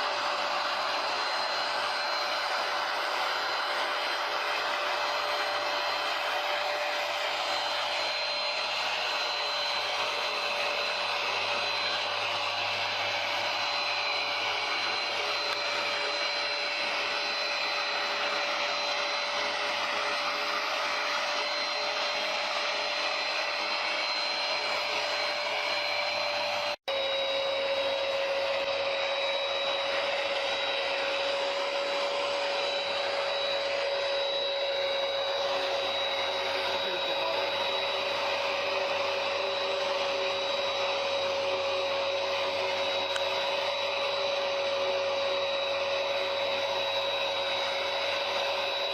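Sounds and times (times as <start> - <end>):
carpet cleaner motor whine: 0.0 - 48.9.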